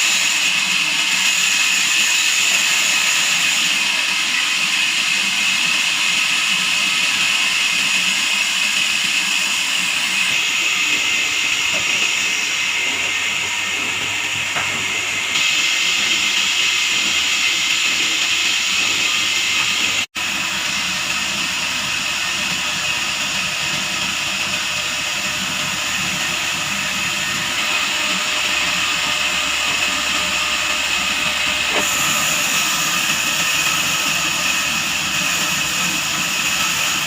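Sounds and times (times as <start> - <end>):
band saw blade cutting log: 0.0 - 37.0.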